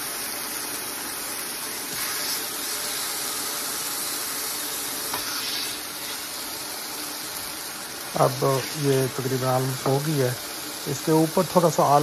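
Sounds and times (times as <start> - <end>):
chicken sizzling in skillet: 0.0 - 12.0.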